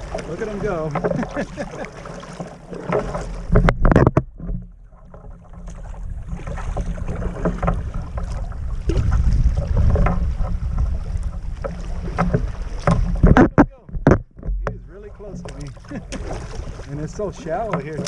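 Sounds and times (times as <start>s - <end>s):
sharp splashes and knocks: 0.0s - 18.0s
water lapping against kayak hull: 0.0s - 18.0s
wind rumbling on microphone: 3.1s - 18.0s.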